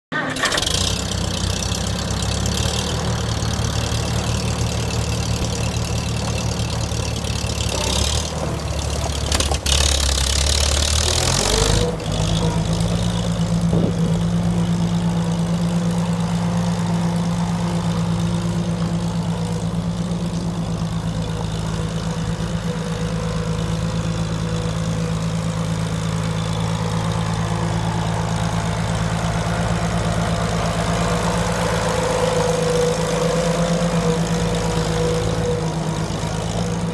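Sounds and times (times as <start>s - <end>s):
tractor engine idling and revving: 0.0s - 36.9s.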